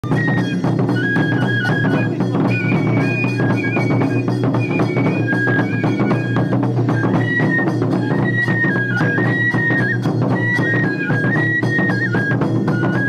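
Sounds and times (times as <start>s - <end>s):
bamboo flute melody: 0.0s - 13.0s
rapid drumming: 0.0s - 13.0s.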